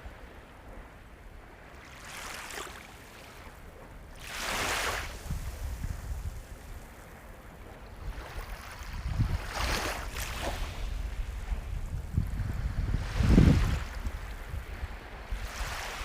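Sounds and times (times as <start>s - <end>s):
low rumble of surf: 0.0s - 16.0s
ocean waves washing onto shore: 0.0s - 16.0s.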